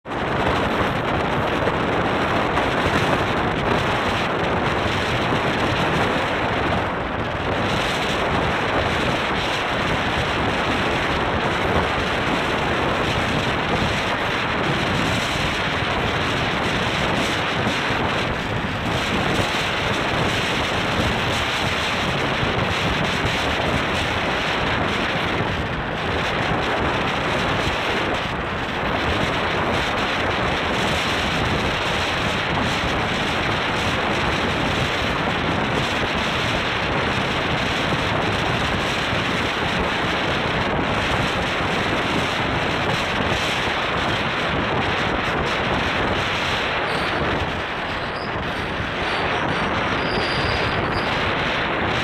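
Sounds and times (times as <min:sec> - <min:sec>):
train running noise: 0:00.0 - 0:52.0
wind on microphone: 0:00.0 - 0:52.0.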